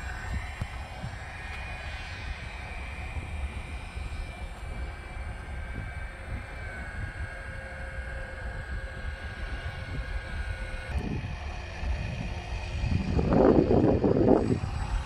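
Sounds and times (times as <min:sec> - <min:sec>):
distant electric motor whining: 0:00.0 - 0:15.0
wind rumble on microphone: 0:00.0 - 0:15.0.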